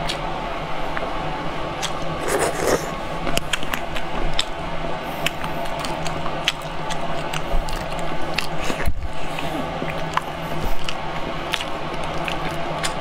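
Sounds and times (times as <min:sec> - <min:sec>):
steady low hum: 0:00.0 - 0:13.0
wet chewing and biting: 0:01.8 - 0:04.6, 0:05.2 - 0:13.0.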